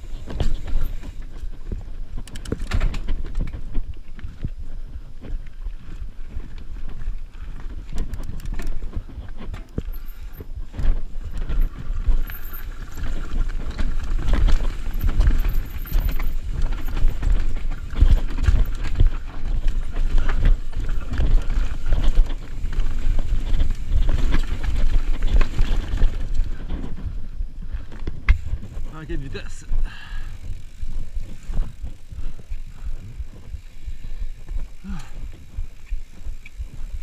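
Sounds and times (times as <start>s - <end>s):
bike knocking and rattling: 0.0s - 37.0s.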